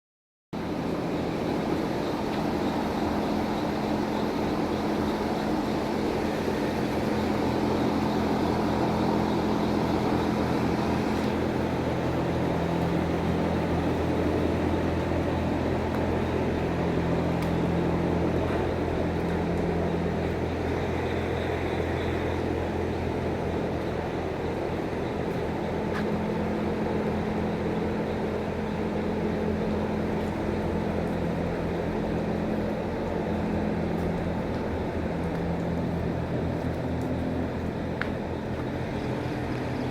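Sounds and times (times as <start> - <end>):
steady machine drone: 0.6 - 39.9.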